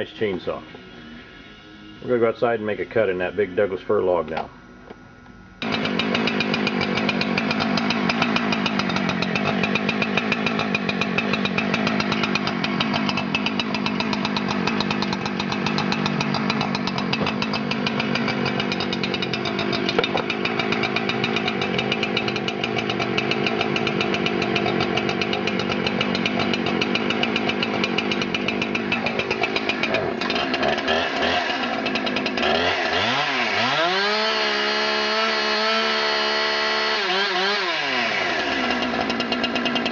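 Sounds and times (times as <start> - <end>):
chainsaw cutting log: 5.6 - 39.9.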